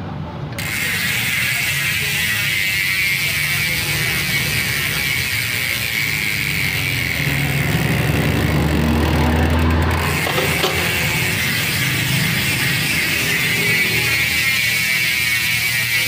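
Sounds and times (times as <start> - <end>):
bicycle hub clicking buzz: 0.5 - 16.0.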